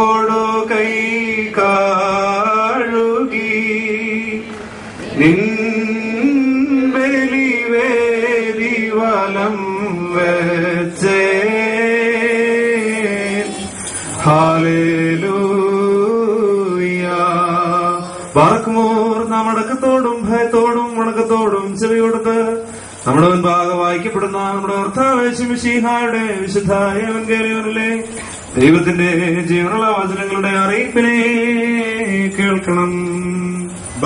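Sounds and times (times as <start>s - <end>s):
man chanting over a microphone: 0.0s - 34.0s.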